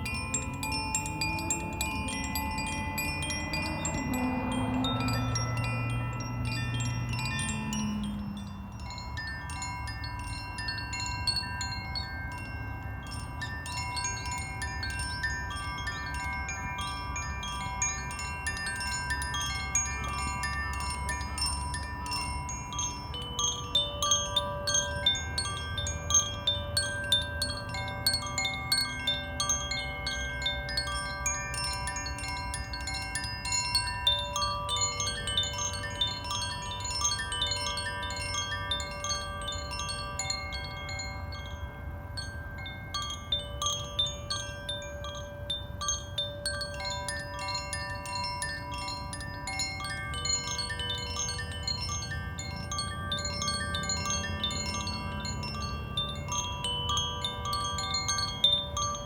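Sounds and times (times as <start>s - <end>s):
bamboo wind chimes ringing: 0.0s - 59.0s.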